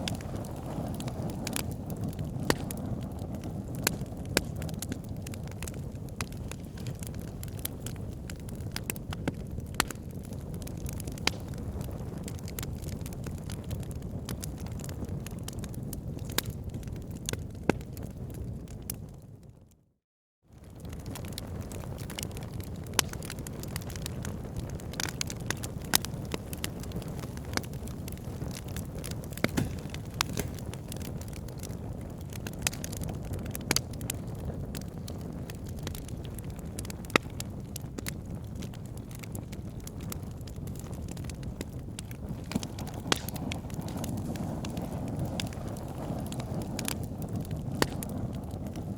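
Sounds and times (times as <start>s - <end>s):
fire pops and snaps: 0.0s - 19.2s, 20.6s - 48.9s
low rumble of burning: 0.0s - 48.9s.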